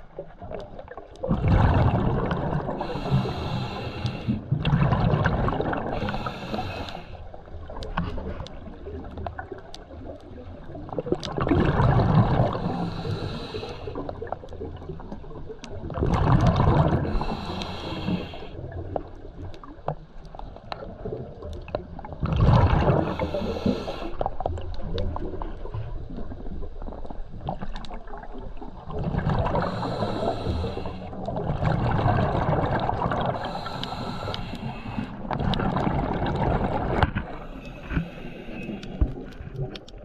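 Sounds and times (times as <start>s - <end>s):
exhaled air bubbling underwater: 0.0s - 40.0s.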